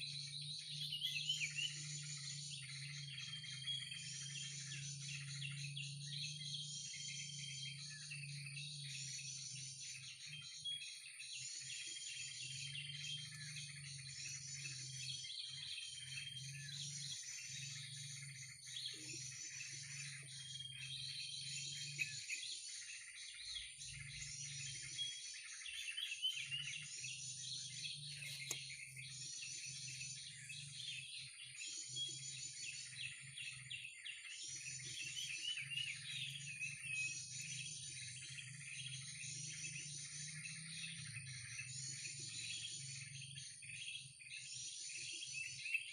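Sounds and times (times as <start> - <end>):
birds chattering and twittering: 0.0 - 45.9.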